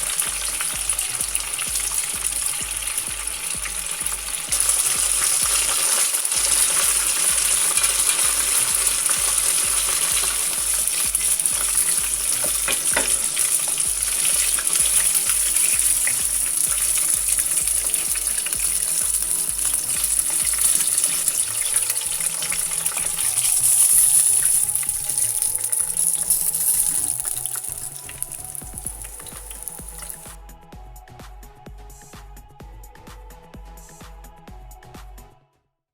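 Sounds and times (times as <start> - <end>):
chicken deep-frying in oil: 0.0 - 30.4
oil popping: 0.0 - 30.4.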